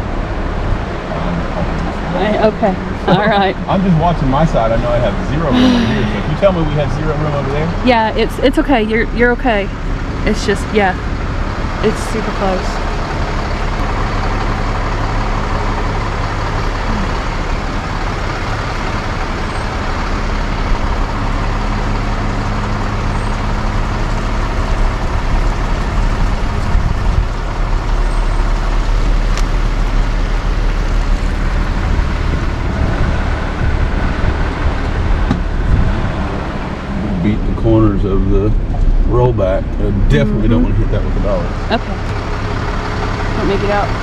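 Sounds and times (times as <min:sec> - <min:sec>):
truck engine drone: 0:00.0 - 0:44.0
tyre and road noise: 0:00.0 - 0:44.0.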